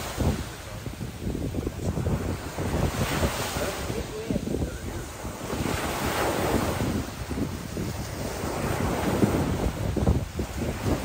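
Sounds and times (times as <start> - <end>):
small waves breaking on beach: 0.0 - 11.0
wind gusting on microphone: 0.0 - 11.0.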